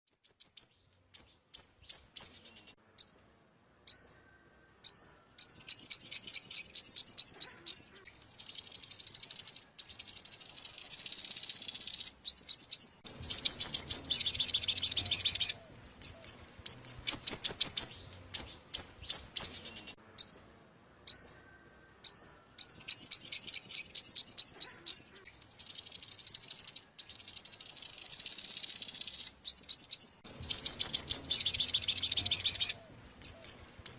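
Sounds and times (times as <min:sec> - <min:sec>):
sunbird song with fast trills: 0:00.1 - 0:33.9.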